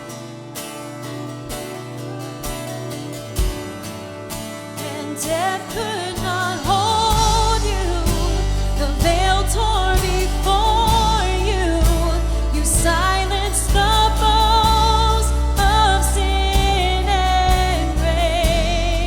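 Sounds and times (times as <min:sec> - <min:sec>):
live band playing: 0:00.0 - 0:19.0
people singing: 0:01.5 - 0:19.0.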